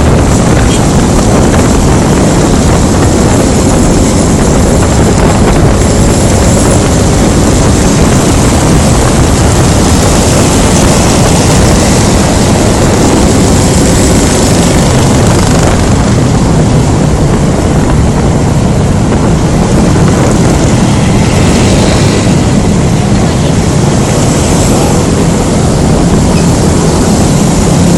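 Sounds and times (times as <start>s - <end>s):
scooter road noise: 0.0s - 27.9s
wind noise: 0.0s - 27.9s.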